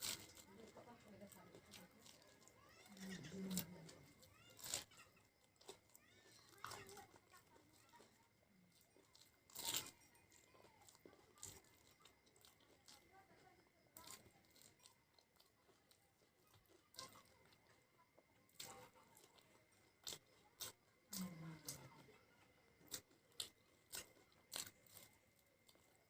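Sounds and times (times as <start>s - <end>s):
person chewing: 0.0s - 26.0s
snack crunching: 0.0s - 26.0s.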